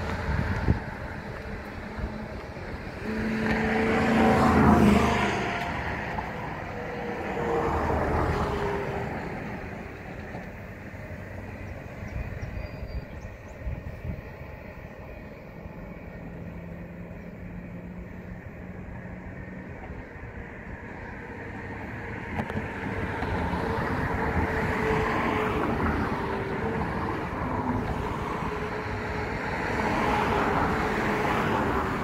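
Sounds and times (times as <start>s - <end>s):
vehicles passing close by: 0.0s - 32.0s.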